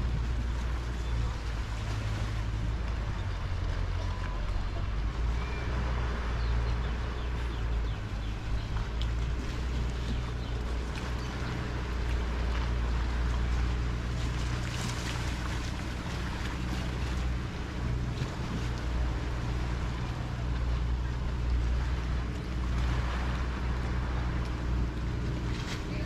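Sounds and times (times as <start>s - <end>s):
boat motor droning: 0.0s - 26.0s
waves and water washing: 0.0s - 26.0s.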